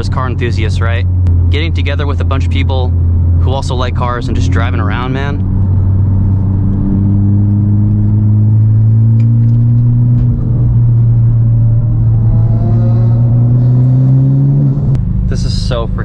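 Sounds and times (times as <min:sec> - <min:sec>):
car engine drone under throttle: 0:00.0 - 0:16.0.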